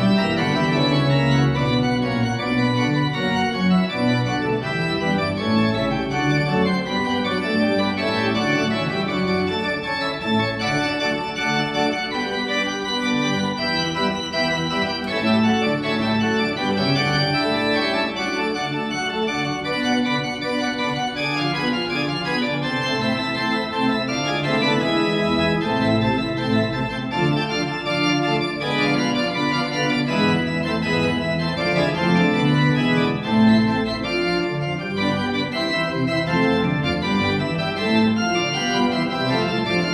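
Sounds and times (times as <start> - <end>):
pipe organ playing chords: 0.0 - 39.9.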